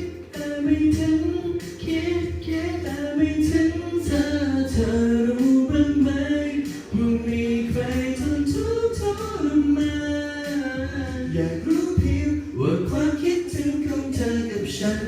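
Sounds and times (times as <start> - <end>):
person singing a cappella: 0.0 - 15.0.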